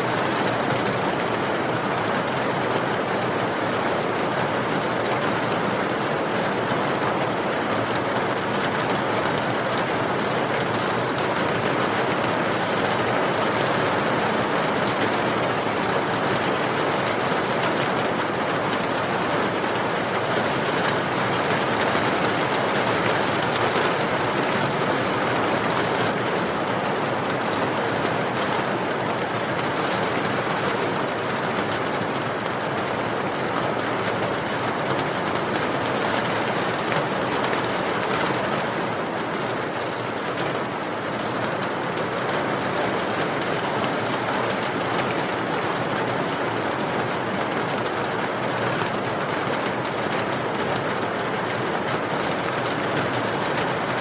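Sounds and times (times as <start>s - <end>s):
rain pouring: 0.1s - 54.0s.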